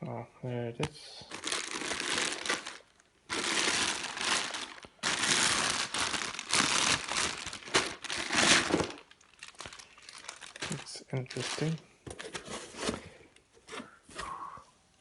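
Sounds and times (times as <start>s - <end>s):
packaging crinkling and rustling: 1.2s - 13.9s.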